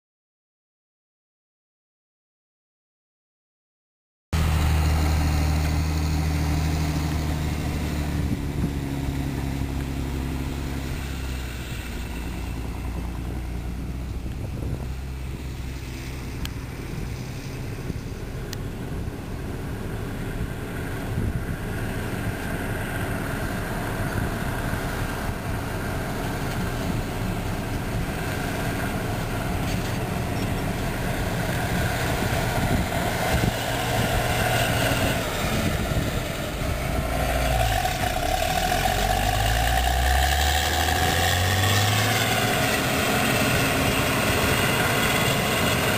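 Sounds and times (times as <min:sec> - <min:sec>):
diesel farm machinery droning: 0:04.4 - 0:45.9
rough mechanical noise: 0:04.4 - 0:45.9.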